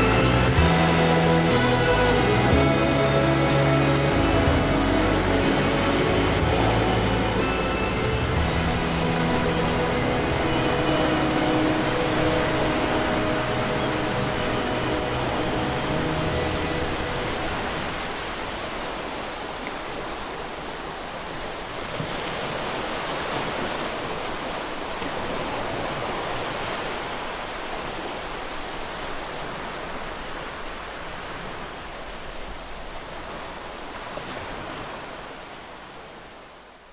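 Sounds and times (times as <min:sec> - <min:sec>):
waves breaking on beach: 0:00.0 - 0:36.9.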